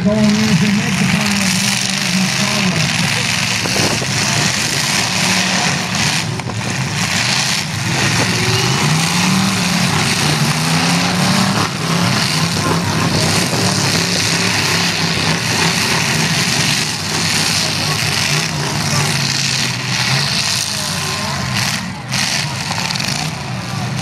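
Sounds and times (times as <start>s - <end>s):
car engines revving: 0.0s - 24.0s
steady loud noise: 0.0s - 24.0s.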